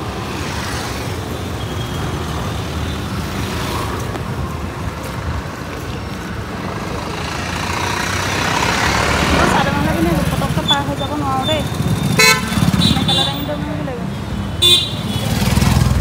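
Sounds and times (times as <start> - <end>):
car and scooter engines rumbling: 0.0 - 16.0
vehicles passing close by: 0.0 - 16.0.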